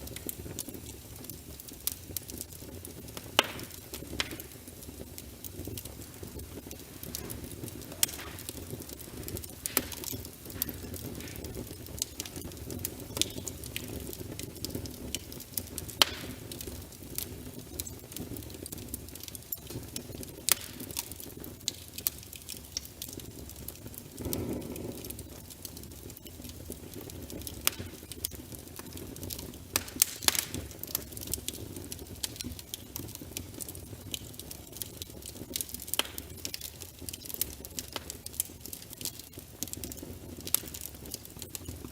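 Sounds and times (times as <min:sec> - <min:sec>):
logs crackling and popping: 0:00.0 - 0:41.9
low rumble of flame: 0:00.0 - 0:41.9.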